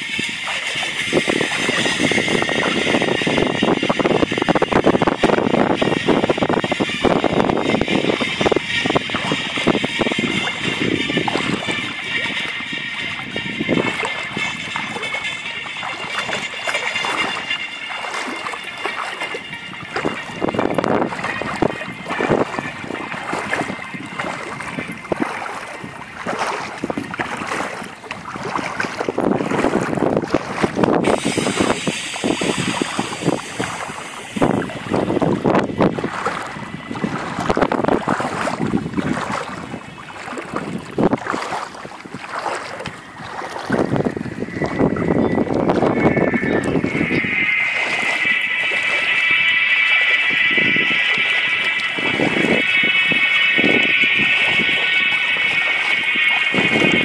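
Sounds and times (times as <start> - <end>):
water lapping at shoreline: 0.0 - 57.0.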